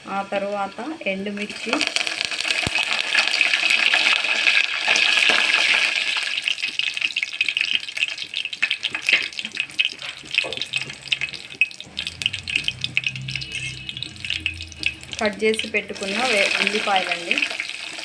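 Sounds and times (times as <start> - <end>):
spices sizzling in hot oil: 0.1 - 18.0.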